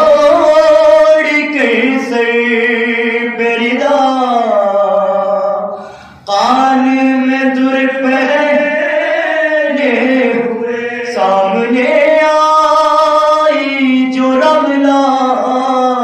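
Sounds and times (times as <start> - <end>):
man chanting a lament: 0.0 - 16.0.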